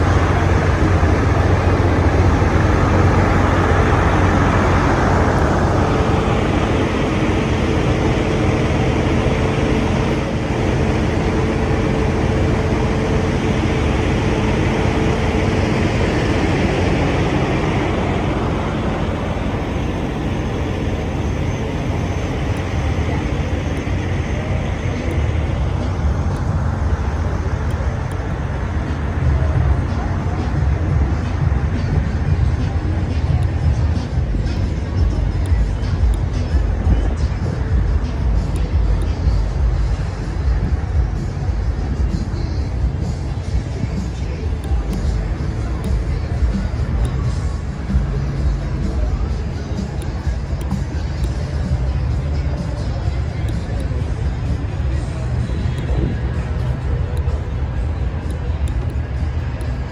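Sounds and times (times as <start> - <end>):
steady hum: 0.0 - 59.9
truck engine idling: 0.0 - 59.9.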